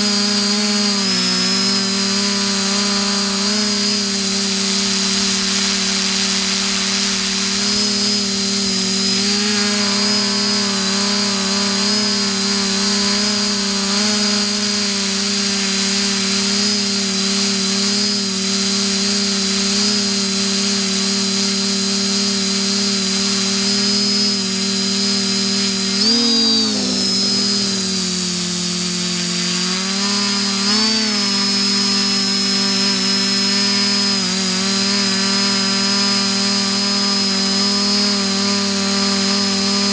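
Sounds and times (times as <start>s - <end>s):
drone motors and propellers whining: 0.0s - 39.9s
thin high whine: 0.0s - 39.9s.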